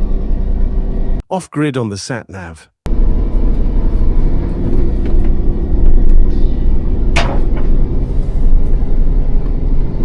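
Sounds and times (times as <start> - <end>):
vehicle engine and road rumble: 0.0 - 1.2, 2.9 - 10.0.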